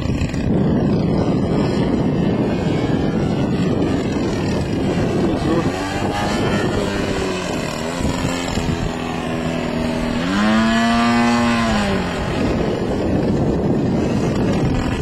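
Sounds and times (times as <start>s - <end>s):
model plane engine revving: 0.0s - 15.0s.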